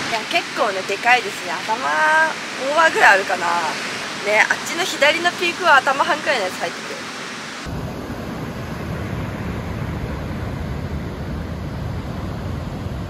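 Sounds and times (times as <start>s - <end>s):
surf rushing: 0.0s - 13.0s
wind on microphone: 0.0s - 13.0s.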